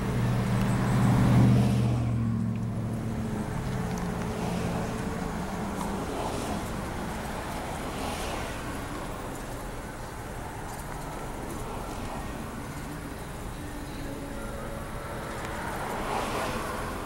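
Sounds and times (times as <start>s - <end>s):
car engine: 0.0s - 17.0s
road noise: 0.0s - 17.0s.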